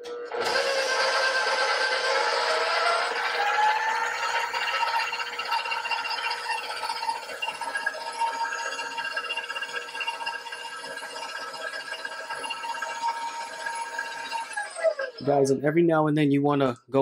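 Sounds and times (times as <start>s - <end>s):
stand mixer motor whine: 0.0s - 15.2s.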